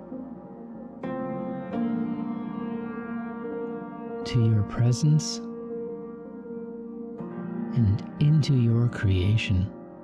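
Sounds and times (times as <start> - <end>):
ambient keyboard chords: 0.0 - 10.0.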